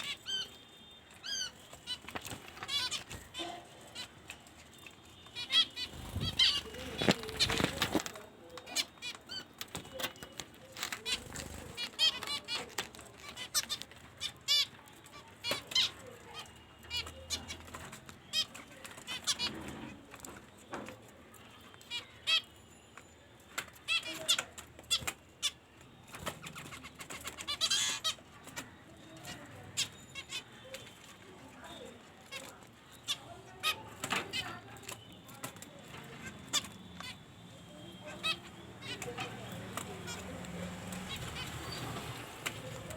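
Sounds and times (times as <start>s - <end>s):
birds chirping: 0.0s - 19.8s, 23.8s - 42.9s.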